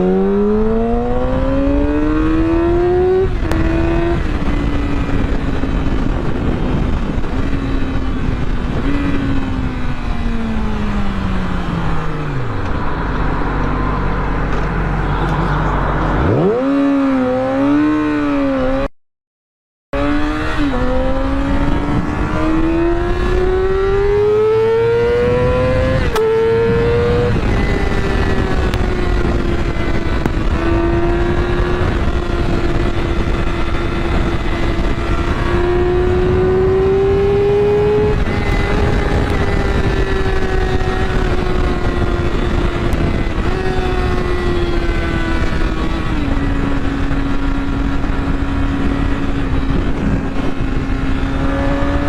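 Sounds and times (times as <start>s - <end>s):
motorcycle engine at speed: 0.0s - 18.9s, 20.0s - 52.0s.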